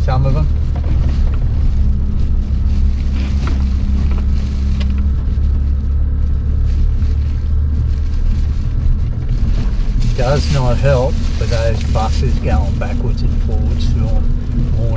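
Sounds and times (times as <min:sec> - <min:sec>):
car engine and tyres rumbling: 0:00.0 - 0:14.9
steady hum: 0:00.0 - 0:14.9
water sloshing around wheels: 0:00.0 - 0:14.9.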